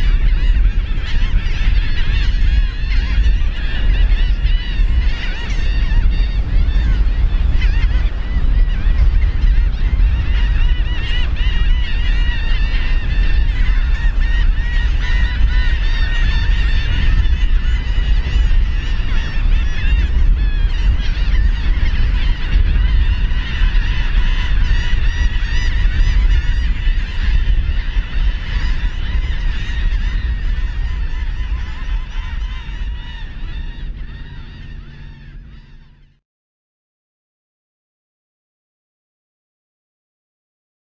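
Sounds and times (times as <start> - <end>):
gulls squawking: 0.0 - 36.2.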